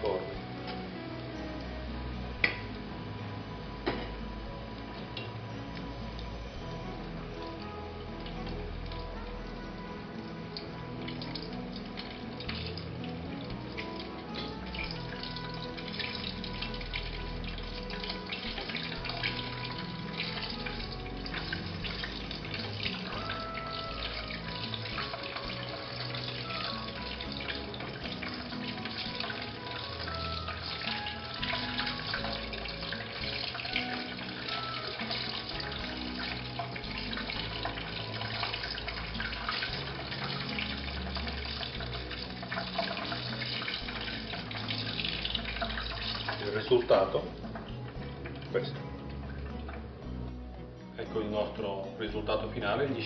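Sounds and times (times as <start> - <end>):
deep-frying sizzle: 0.0 - 49.9
background music with held notes: 0.0 - 53.0.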